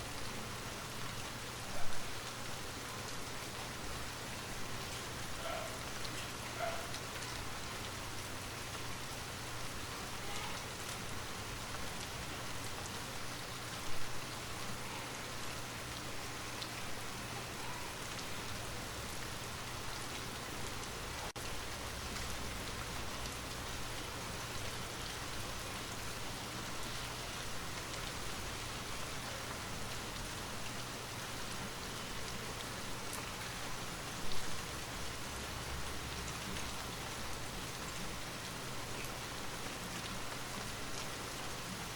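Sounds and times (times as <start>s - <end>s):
rain pattering: 0.0s - 41.9s.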